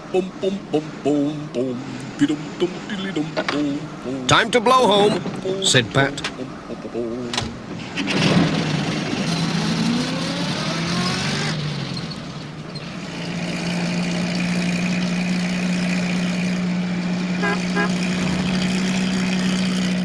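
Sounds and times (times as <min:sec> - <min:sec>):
small van engine: 0:00.0 - 0:20.0.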